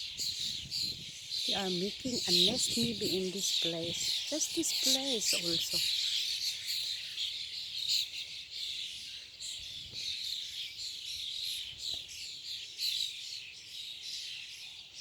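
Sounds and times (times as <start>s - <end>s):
flock of small birds chirping: 0.0s - 15.0s.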